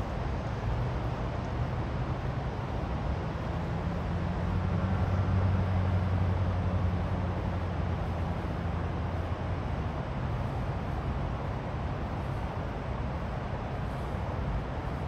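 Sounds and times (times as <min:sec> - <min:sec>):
low engine hum: 0:00.0 - 0:15.0
steady rushing noise: 0:00.0 - 0:15.0.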